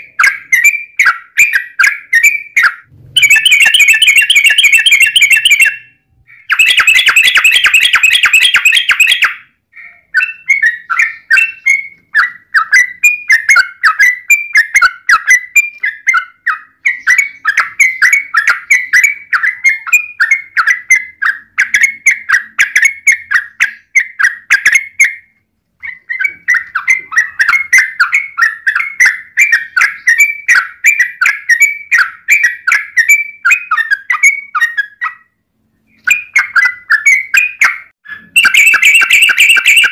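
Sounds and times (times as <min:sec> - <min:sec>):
bulbul song: 0:00.0 - 0:39.9.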